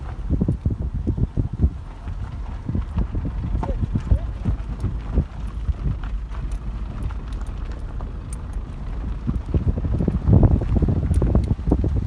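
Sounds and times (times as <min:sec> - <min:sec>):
vehicle driving rumble: 0:00.0 - 0:12.0
wind buffeting microphone: 0:00.0 - 0:12.0.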